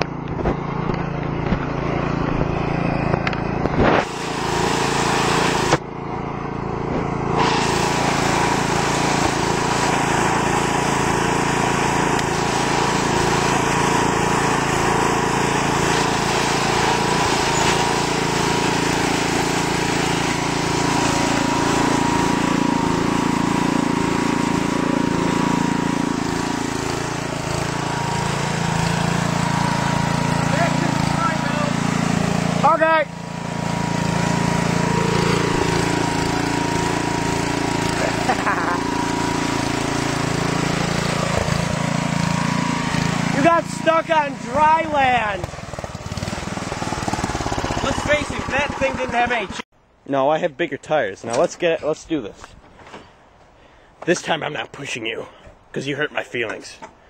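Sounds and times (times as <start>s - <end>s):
lawn tractor engine running: 0.0s - 49.7s.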